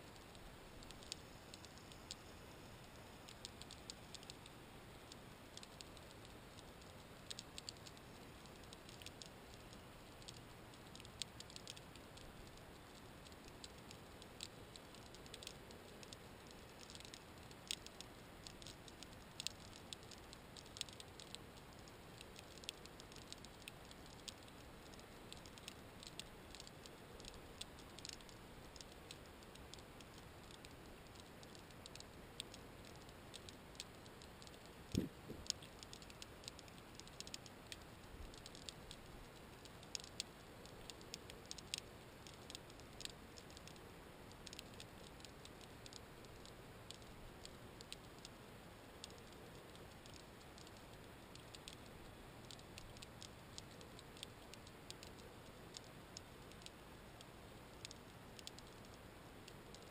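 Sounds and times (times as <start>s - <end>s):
underwater clicks and crackles: 0.1s - 59.9s.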